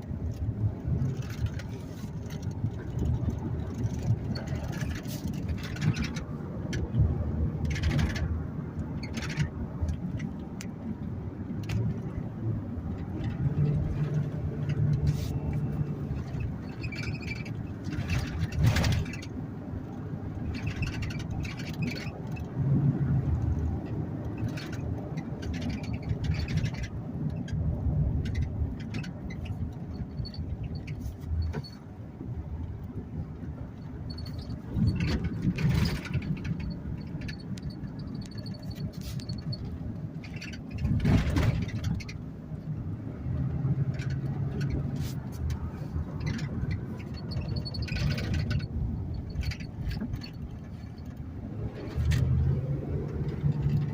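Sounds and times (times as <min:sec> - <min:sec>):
car engine and tyre rumble: 0:00.0 - 0:53.9.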